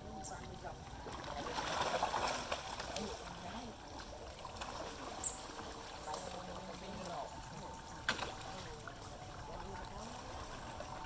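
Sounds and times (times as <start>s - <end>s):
fish splashing in water: 0.0s - 11.0s.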